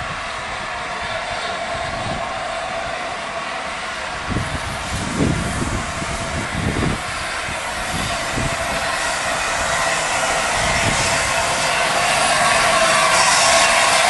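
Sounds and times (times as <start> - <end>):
low locomotive chuffs: 0.0 - 14.0
steam hissing from locomotive: 0.0 - 14.0.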